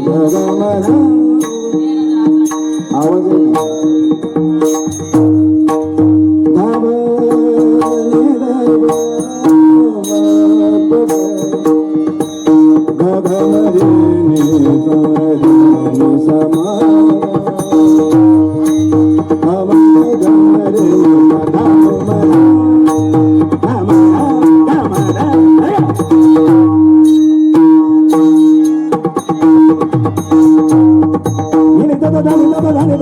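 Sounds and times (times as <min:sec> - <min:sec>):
hand drum strokes: 0:00.0 - 0:33.0
sharp rhythmic strikes: 0:00.0 - 0:33.0
wavering melody: 0:00.0 - 0:33.0.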